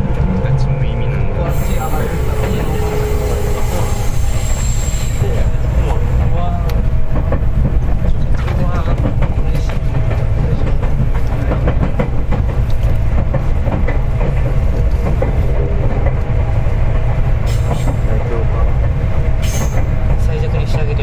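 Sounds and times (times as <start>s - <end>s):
train wheels rumbling on rail: 0.0s - 21.0s
rail-joint clicks: 1.5s - 21.0s.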